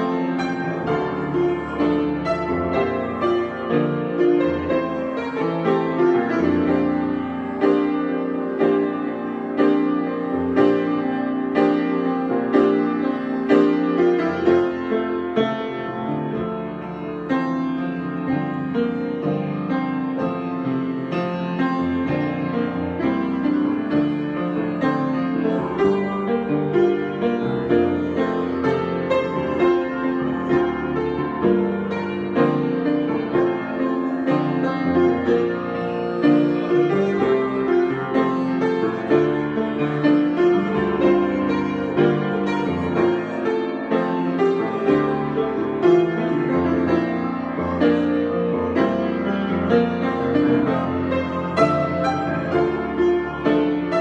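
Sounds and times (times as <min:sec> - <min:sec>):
solo piano: 0:00.0 - 0:54.0.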